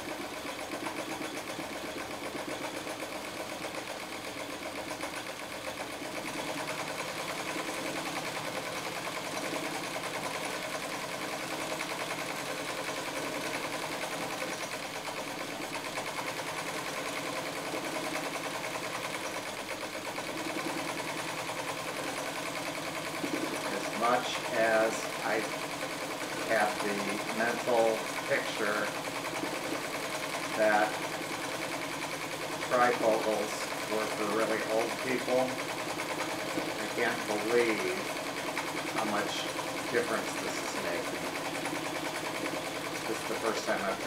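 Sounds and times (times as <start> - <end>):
electric sewing machine stitching: 0.0 - 44.0.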